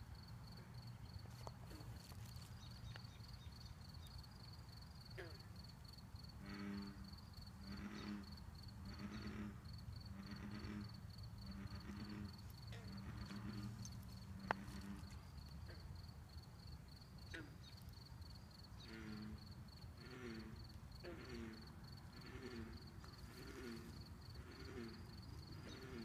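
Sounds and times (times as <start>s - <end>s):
bullfrogs croaking: 0.1s - 26.0s.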